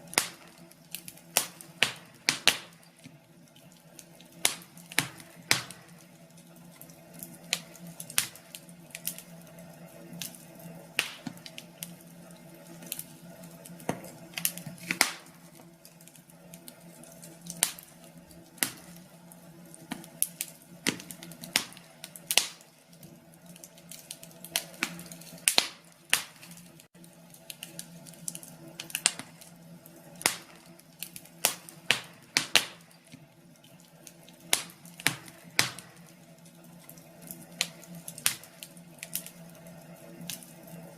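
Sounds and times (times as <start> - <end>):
burning logs popping: 0.0 - 40.9
wood fire crackling: 0.0 - 40.9.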